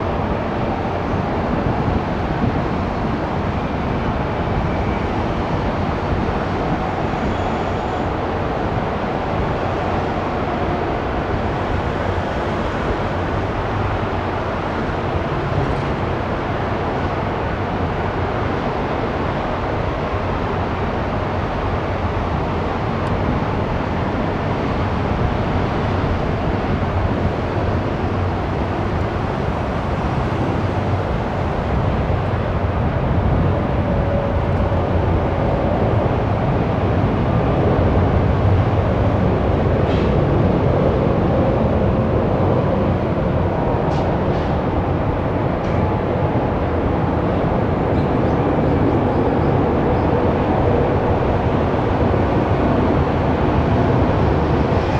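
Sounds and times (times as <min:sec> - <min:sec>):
jet engines rumbling: 0:00.0 - 0:54.9.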